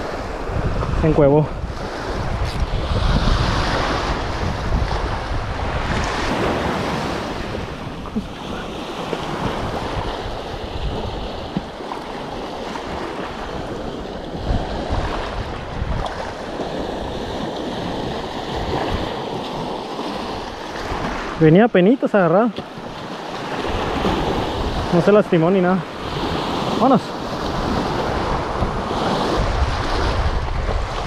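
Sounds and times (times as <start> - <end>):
wind buffeting microphone: 0.0 - 21.5, 22.6 - 31.0
waves washing onto rocky shore: 0.0 - 31.0.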